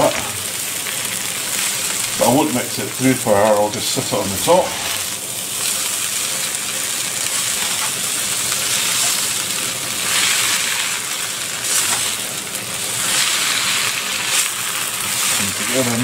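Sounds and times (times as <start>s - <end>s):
noodles sizzling in wok: 0.0s - 16.0s.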